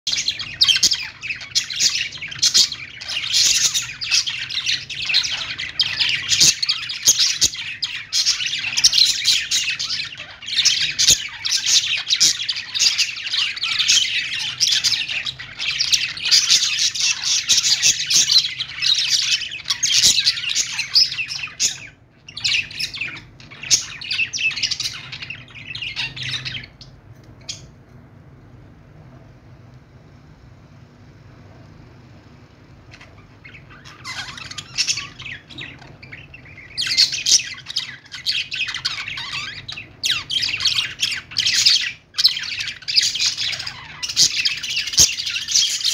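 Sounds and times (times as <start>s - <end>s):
budgerigars chattering: 0.1s - 27.7s, 32.9s - 45.9s
faint low hum: 0.1s - 45.9s.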